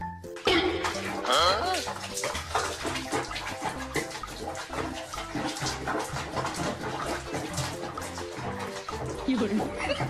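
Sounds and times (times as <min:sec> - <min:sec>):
bathwater sloshing and splashing: 0:00.1 - 0:10.0.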